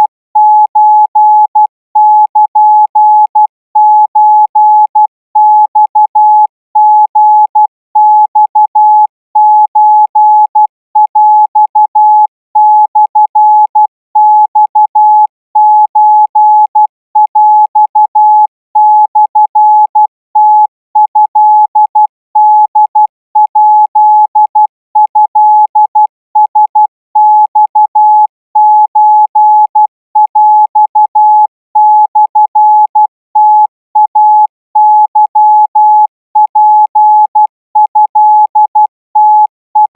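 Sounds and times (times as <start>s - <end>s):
morse code beeps: 0.0s - 23.6s, 24.2s - 35.8s, 36.4s - 39.9s.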